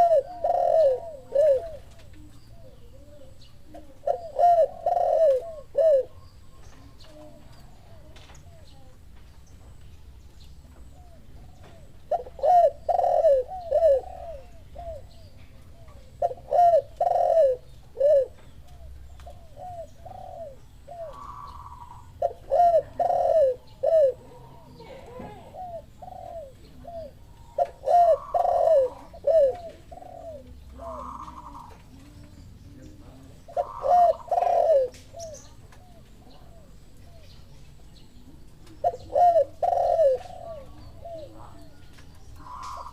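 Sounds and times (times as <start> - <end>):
doves cooing: 0.0 - 9.2, 10.3 - 42.9.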